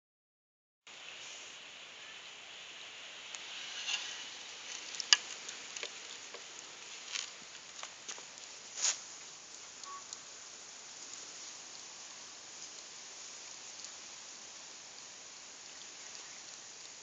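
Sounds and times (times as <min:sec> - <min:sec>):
steady hiss: 0:00.9 - 0:17.0.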